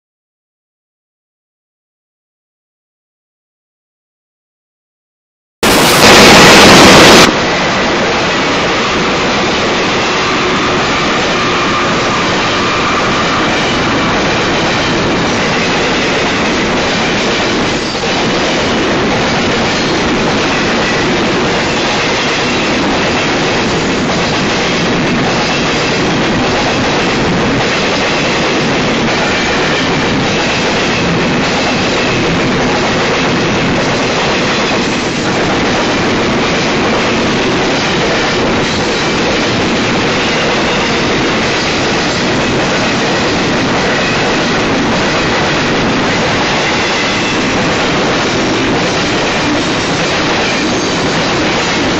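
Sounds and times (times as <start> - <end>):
train wheels rumbling on rails: 5.6 - 51.9.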